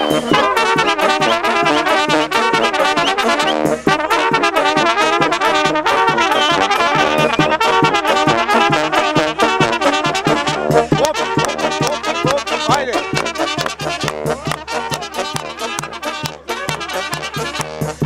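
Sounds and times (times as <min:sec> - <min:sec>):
drum beat: 0:00.0 - 0:18.0
trumpets and horns playing: 0:00.0 - 0:18.0.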